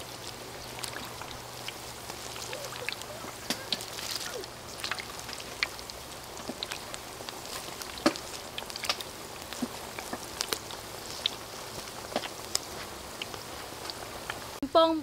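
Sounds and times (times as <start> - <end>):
oil crackling and popping: 0.0 - 14.6
oil sizzling in a wok: 0.0 - 15.0.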